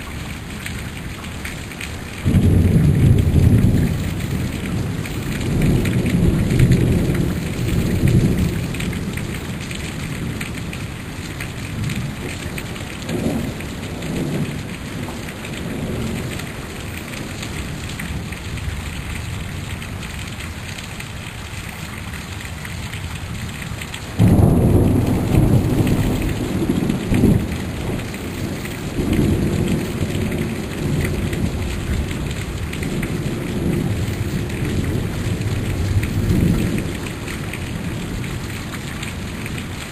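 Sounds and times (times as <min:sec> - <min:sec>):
heavy rain pouring: 0:00.0 - 0:39.9
thunder rumbling: 0:02.2 - 0:18.9, 0:24.2 - 0:39.6.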